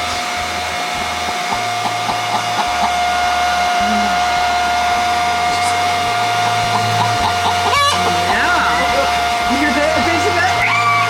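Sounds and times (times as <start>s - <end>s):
blow dryer running: 0.0s - 11.0s.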